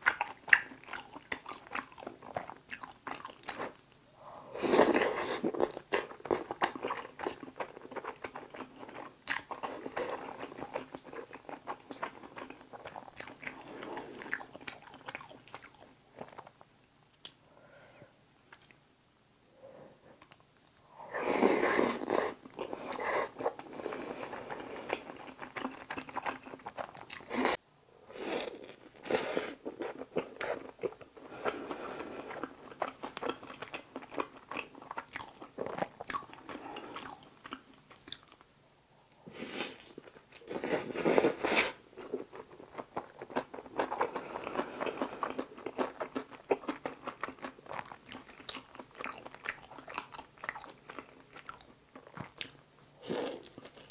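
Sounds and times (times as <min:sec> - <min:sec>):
crunching and chewing: 0:00.0 - 0:16.6, 0:22.0 - 0:27.6, 0:28.4 - 0:38.5, 0:39.6 - 0:53.9.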